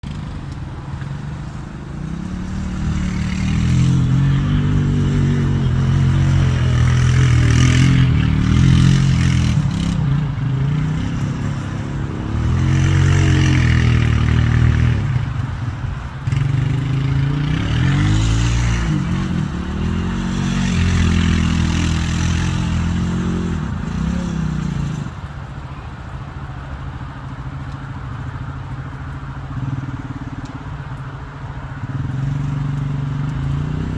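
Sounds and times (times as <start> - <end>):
vehicle engine revving: 0.0 - 25.3, 31.8 - 33.9.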